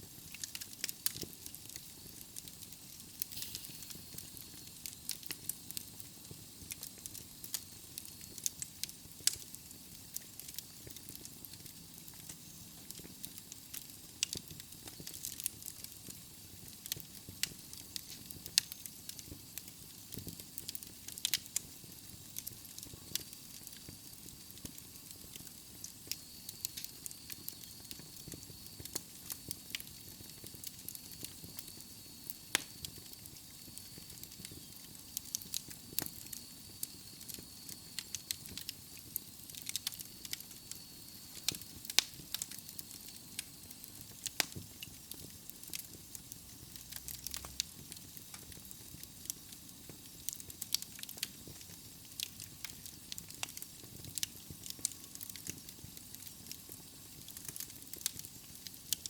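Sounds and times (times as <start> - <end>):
wood logs crackling in fireplace: 0.0 - 59.0.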